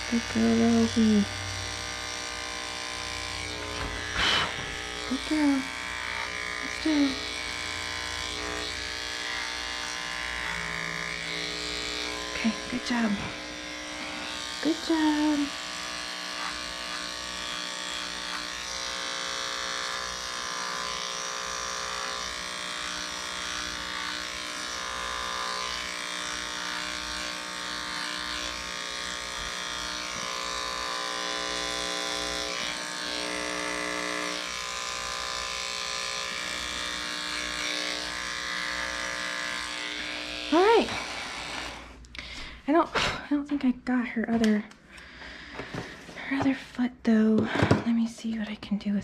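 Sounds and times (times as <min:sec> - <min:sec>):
electric clippers buzzing: 0:00.0 - 0:43.2, 0:44.4 - 0:46.2.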